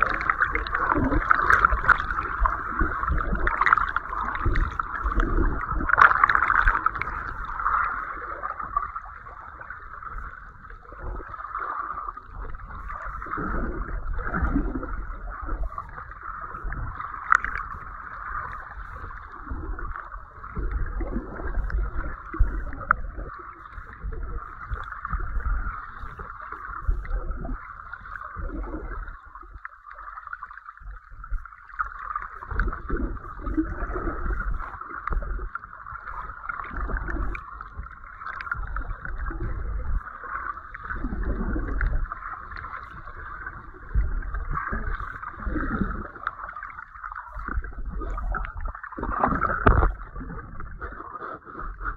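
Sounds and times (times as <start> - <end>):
rumbling surges of water: 0.0 - 51.0.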